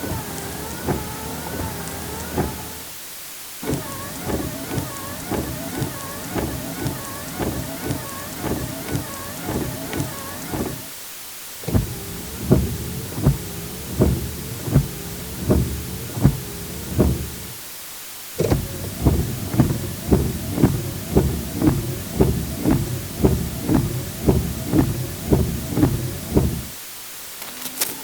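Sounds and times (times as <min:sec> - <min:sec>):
wiper knock: 0:00.0 - 0:02.9, 0:03.6 - 0:11.0, 0:11.6 - 0:17.6, 0:18.4 - 0:26.8
wiper motor whine: 0:00.0 - 0:03.0, 0:03.6 - 0:11.0, 0:11.6 - 0:17.6, 0:18.4 - 0:26.8
windshield wipers sweeping: 0:00.0 - 0:26.9.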